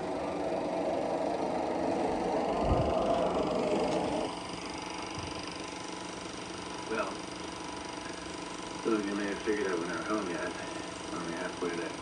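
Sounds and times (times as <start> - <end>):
faint steady hum: 0.0 - 12.0
steady mechanical rumble: 0.0 - 12.0.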